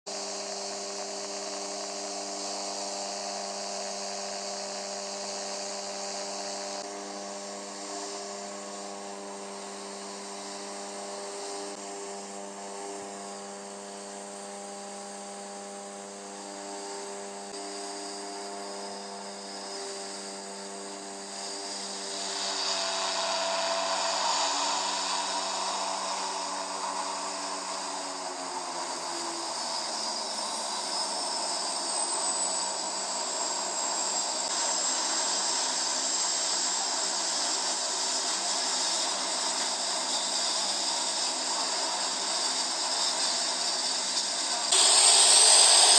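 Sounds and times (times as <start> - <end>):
propeller air rush: 0.1 - 45.9
propeller aircraft engine droning: 0.1 - 45.9.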